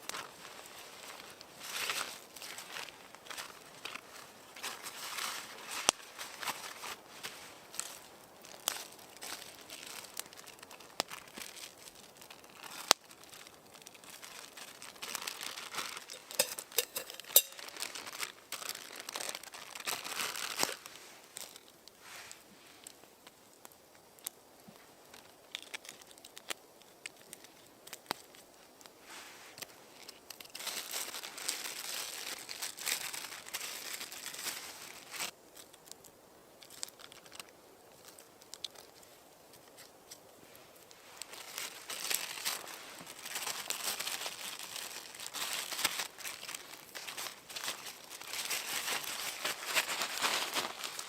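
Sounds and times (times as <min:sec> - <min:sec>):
crinkling material being handled: 0:00.0 - 0:51.0.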